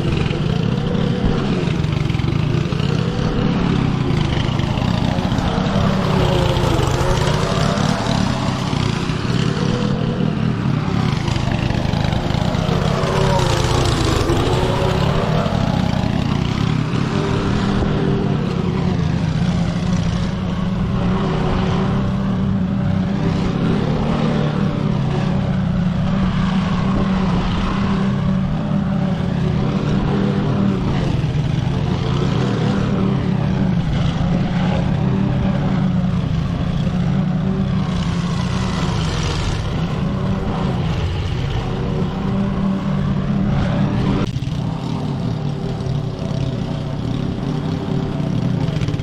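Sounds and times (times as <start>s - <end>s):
lawn mower engine running: 0.0s - 26.3s, 28.4s - 43.4s, 44.2s - 49.0s.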